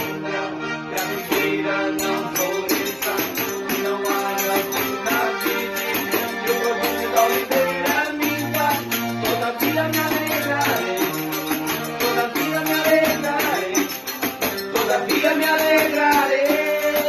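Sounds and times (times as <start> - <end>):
band music with steady beat: 0.8 - 17.0
shaker keeping time: 1.1 - 17.0.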